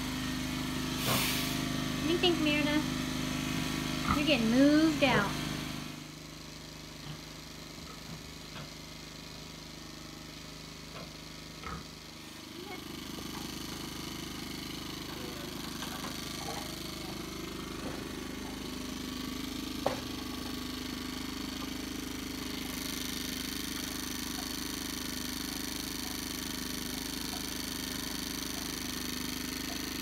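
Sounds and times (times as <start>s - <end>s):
portable generator running: 0.0s - 30.0s.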